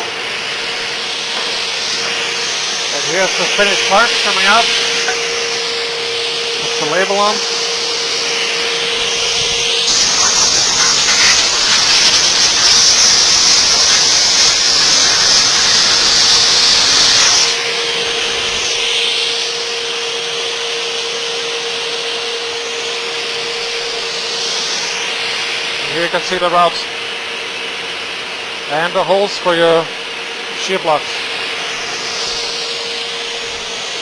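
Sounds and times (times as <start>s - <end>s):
compressed air hissing: 0.0s - 19.6s, 23.2s - 29.4s, 30.6s - 34.0s
drilling machine humming: 0.0s - 34.0s.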